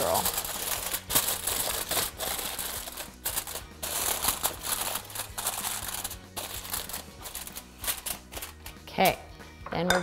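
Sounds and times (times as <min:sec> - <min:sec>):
aluminium foil crinkling: 0:00.0 - 0:08.8.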